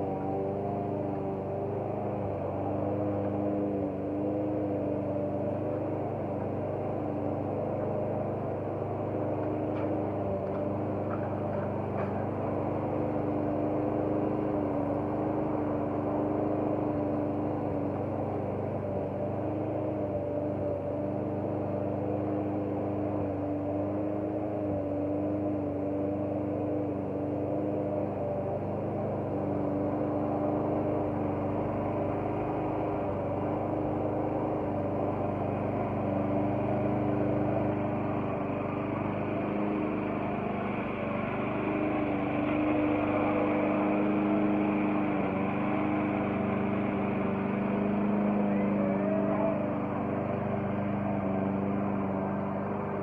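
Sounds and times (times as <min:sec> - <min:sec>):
lawn mower engine running: 0:00.0 - 0:53.0.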